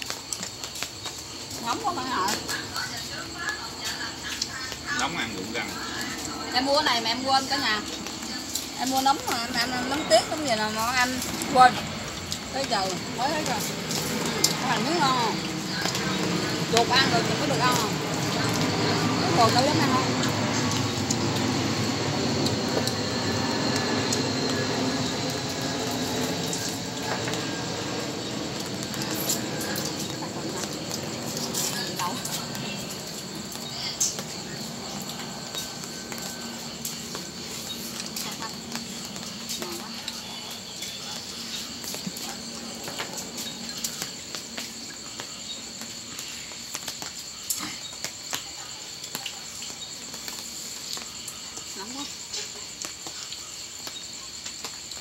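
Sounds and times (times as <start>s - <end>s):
night insects trilling: 0.0s - 55.0s
steady rain falling: 0.0s - 55.0s.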